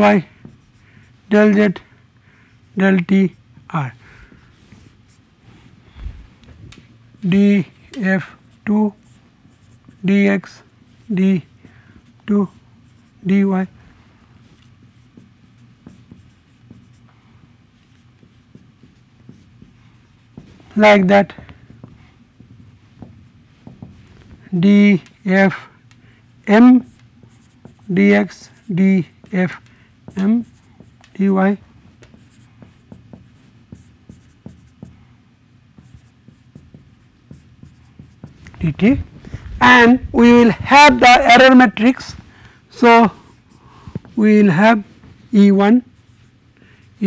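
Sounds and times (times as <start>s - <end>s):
marker pen on whiteboard: 0.0s - 47.0s.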